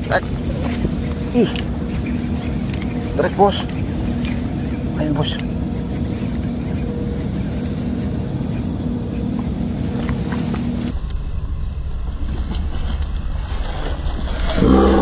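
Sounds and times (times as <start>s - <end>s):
engine humming and rumbling: 0.0s - 15.0s.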